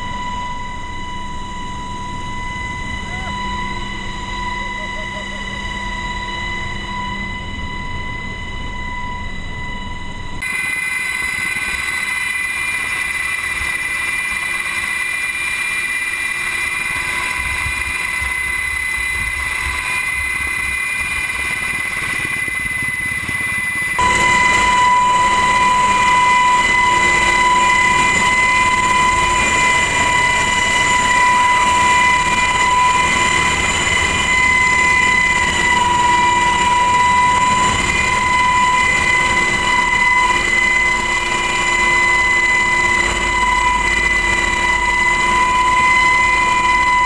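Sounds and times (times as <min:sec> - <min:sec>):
helicopter engine and rotor din: 0:00.0 - 0:47.0
high steady whine: 0:00.0 - 0:47.0.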